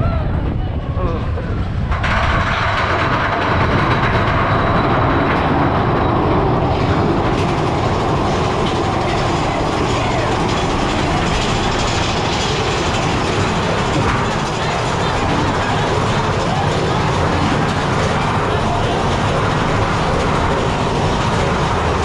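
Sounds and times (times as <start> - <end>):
roller coaster wheels rumbling: 0.0 - 22.0
rushing wind: 0.0 - 22.0.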